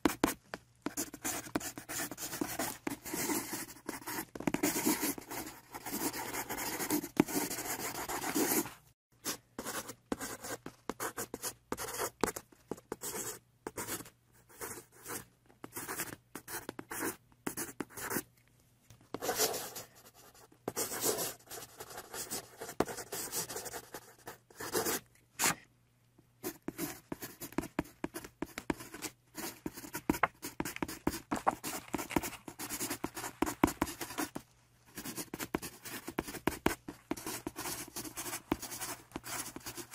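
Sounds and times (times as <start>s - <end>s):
marker scratching on paper: 0.0s - 18.2s, 19.1s - 25.6s, 26.4s - 34.4s, 35.0s - 39.9s.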